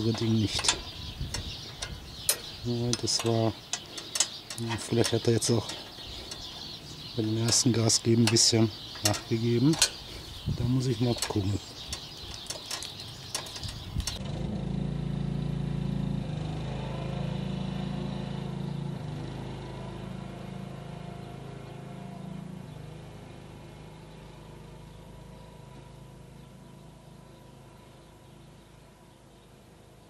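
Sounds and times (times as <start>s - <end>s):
ride-on mower engine running: 0.0s - 28.7s.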